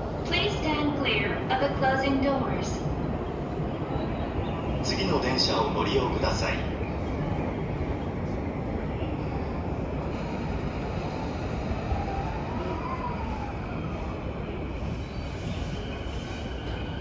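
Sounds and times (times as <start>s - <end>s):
train motors and wheels rumbling: 0.0s - 17.0s.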